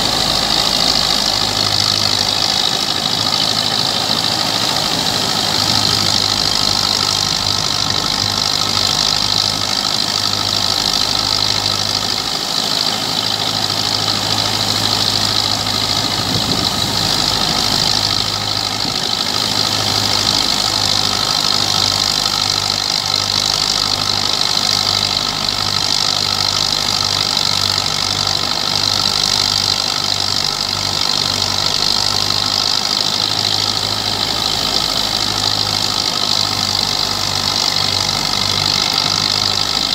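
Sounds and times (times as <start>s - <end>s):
thresher drum and fan whirring: 0.0s - 39.9s
tractor diesel engine under load: 0.0s - 39.9s.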